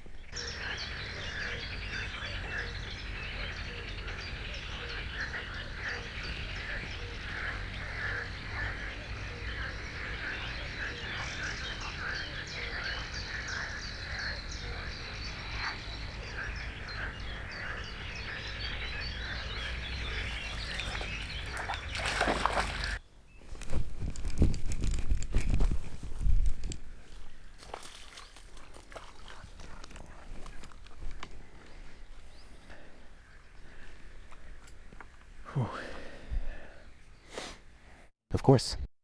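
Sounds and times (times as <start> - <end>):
frogs croaking: 0.3 - 23.0, 27.1 - 37.0.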